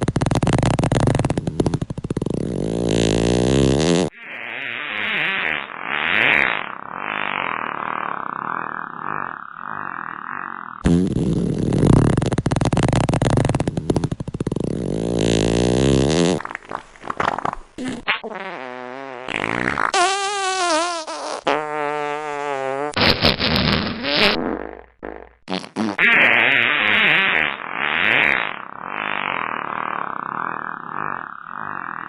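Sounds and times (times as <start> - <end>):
fart sound effects: 0.0 - 32.0.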